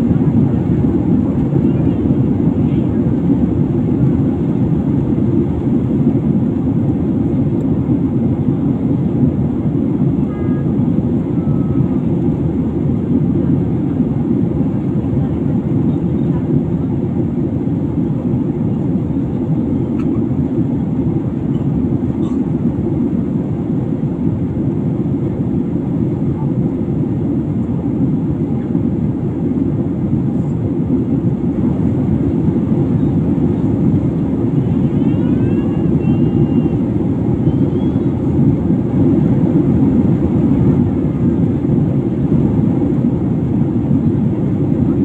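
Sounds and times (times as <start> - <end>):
airliner engines rumbling in cabin: 0.0 - 45.0.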